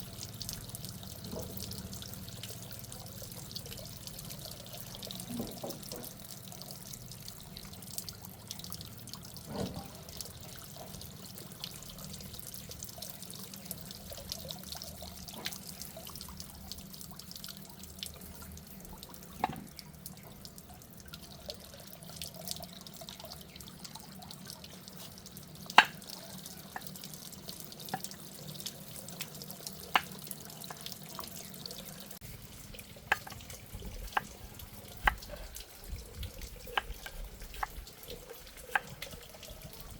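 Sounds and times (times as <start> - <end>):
water running and dripping: 0.0 - 39.9.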